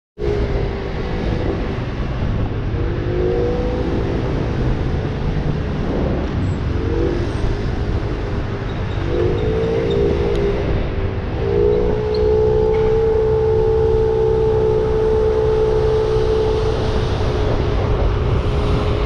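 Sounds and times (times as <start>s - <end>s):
heavy low rumble: 0.2s - 19.0s.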